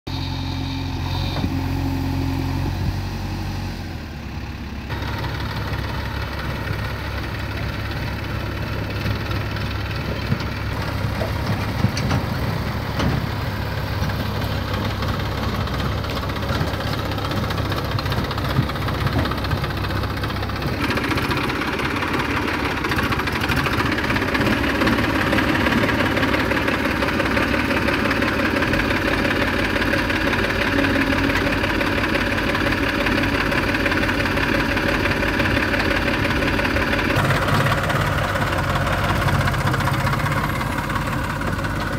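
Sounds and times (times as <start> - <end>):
diesel engines running: 0.1 - 41.9.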